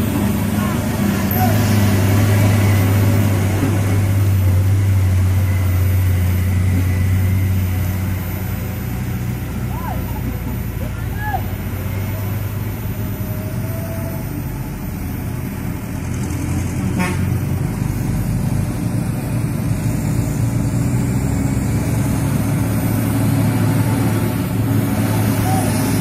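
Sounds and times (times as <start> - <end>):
diesel truck engines droning: 0.0 - 26.0.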